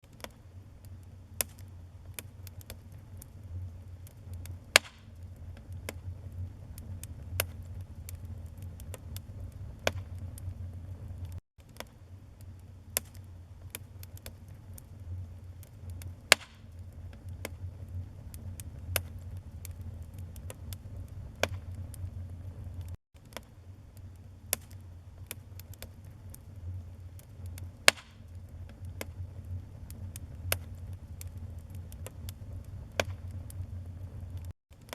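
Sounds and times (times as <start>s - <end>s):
fire crackling and popping: 0.0s - 34.9s
fire low rumble: 0.0s - 34.9s.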